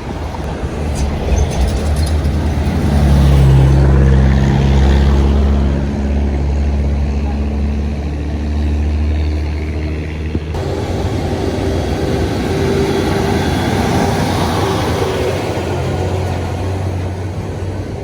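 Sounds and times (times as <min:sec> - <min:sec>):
heavy vehicle engine passing: 0:00.0 - 0:18.0.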